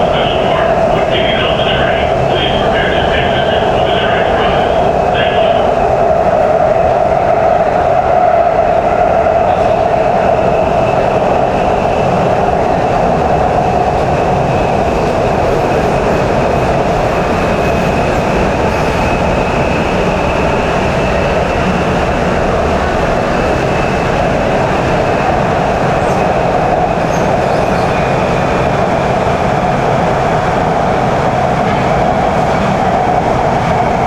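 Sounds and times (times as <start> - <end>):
metro train running on track: 0.0 - 34.0.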